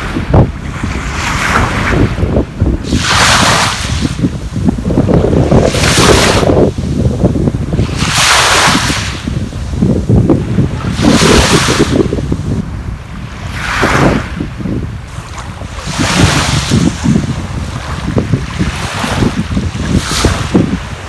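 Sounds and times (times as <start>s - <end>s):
sea waves washing onto shore: 0.0s - 21.0s
wind buffeting microphone: 0.0s - 21.0s.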